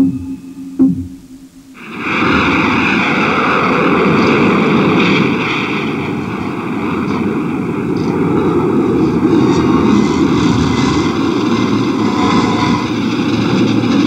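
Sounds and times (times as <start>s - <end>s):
loud rushing roar: 1.8s - 14.0s.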